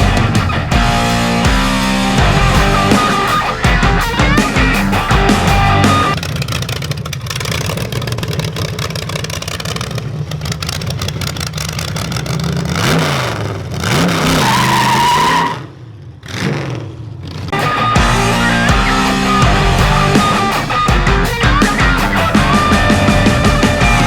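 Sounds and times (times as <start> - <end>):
car engine running and revving: 0.0 - 14.4, 15.9 - 24.0.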